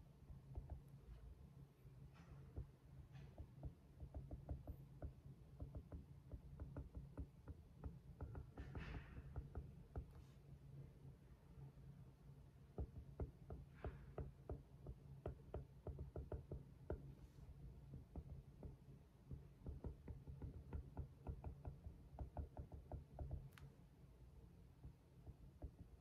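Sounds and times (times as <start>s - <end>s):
light irregular taps: 0.2s - 1.3s, 2.0s - 10.4s, 12.7s - 24.0s, 24.7s - 26.0s.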